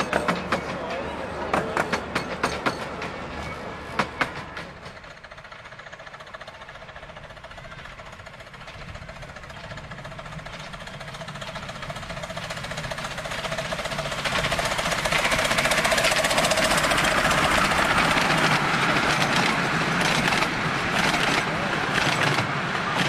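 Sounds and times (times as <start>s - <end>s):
miniature locomotive passing: 0.0s - 23.0s
wheel noise: 0.0s - 23.0s.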